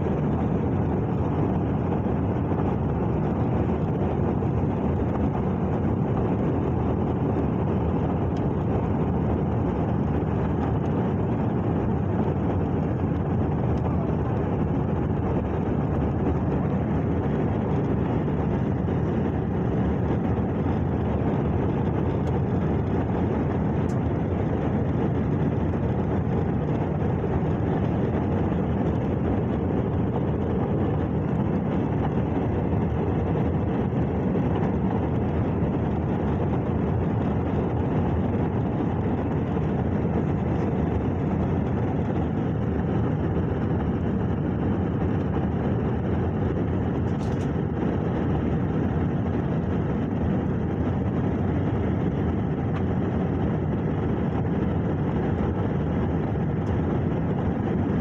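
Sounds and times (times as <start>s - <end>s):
airliner cabin engine roar: 0.0s - 58.0s.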